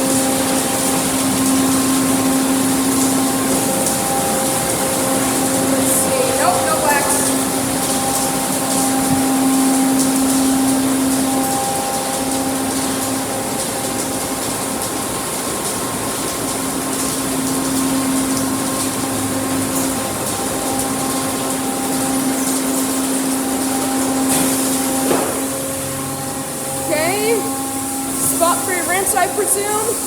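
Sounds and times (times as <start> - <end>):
motor or pump hum: 0.0 - 28.6.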